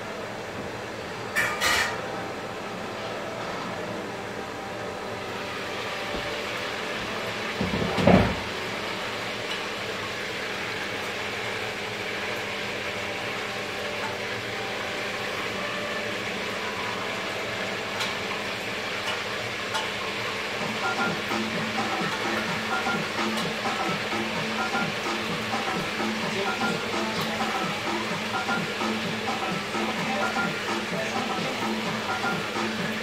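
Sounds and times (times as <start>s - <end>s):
kitchen hum and hiss: 0.0s - 33.0s.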